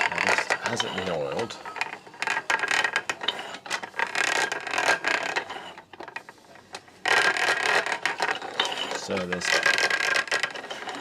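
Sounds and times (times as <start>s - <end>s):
treadle grinder rattling and scraping: 0.0s - 11.0s.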